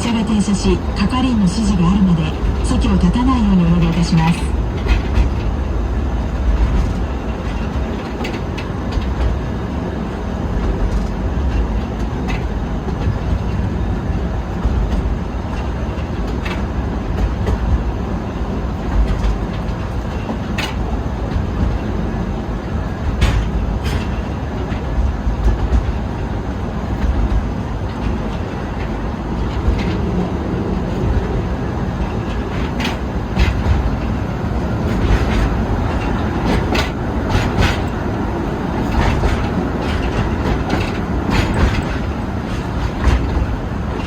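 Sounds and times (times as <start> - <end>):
train cars rumbling on track: 0.0 - 44.0
train wheel clicks: 0.7 - 44.0.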